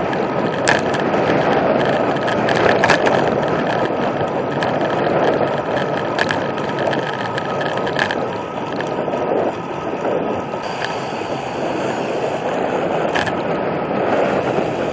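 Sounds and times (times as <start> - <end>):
tyres rushing on road: 0.0 - 14.9
wind buffeting microphone: 0.0 - 14.9.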